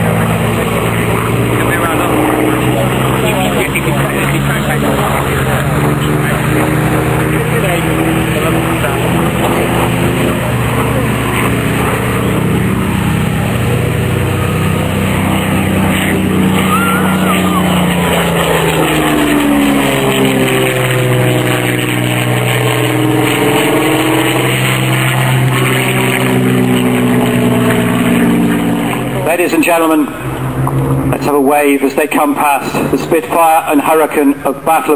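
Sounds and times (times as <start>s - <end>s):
propeller aircraft engines droning: 0.0s - 34.9s.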